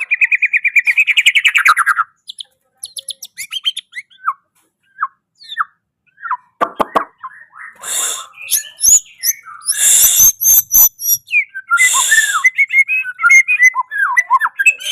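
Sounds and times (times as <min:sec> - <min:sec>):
bird whistled chirps: 0:00.3 - 0:14.9.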